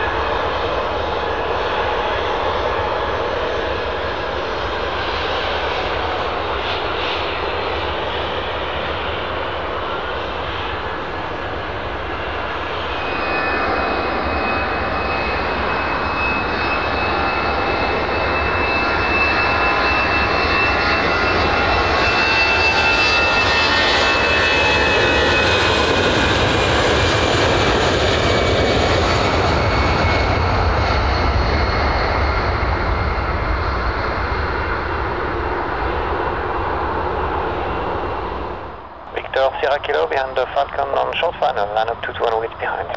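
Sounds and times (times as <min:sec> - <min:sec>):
high engine whine: 0:00.0 - 0:42.9
jet engines at taxi power: 0:00.0 - 0:42.9.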